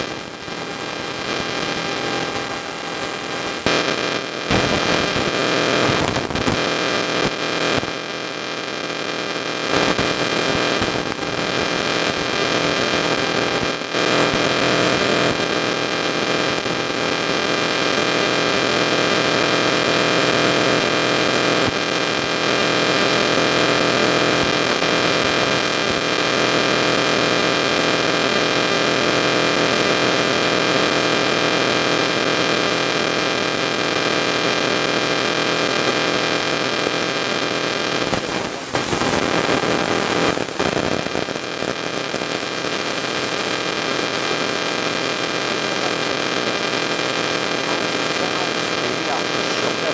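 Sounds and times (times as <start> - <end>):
electrical hum and buzz: 0.0 - 49.9.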